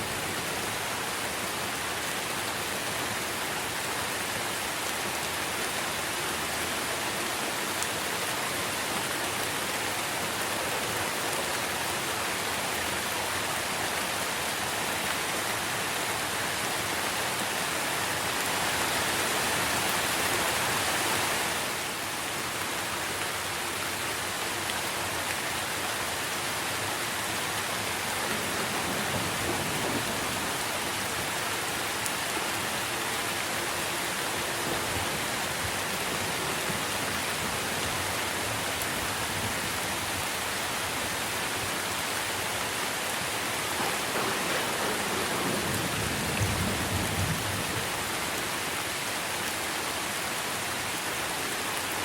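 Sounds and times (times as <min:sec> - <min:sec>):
rain on tree foliage: 0:00.0 - 0:52.0.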